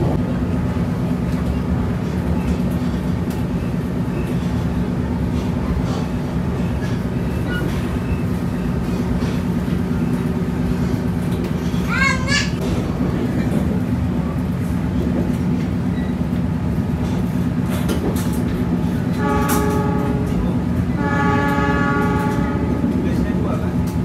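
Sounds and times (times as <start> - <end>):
train rumbling inside carriage: 0.0 - 24.0.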